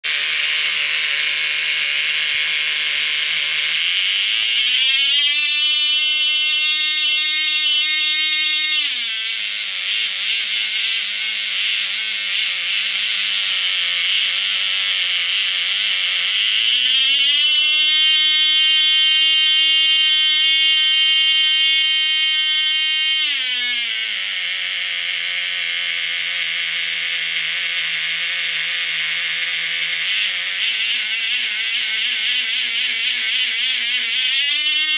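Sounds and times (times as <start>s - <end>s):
model engine revving: 0.1s - 18.8s, 19.4s - 34.9s.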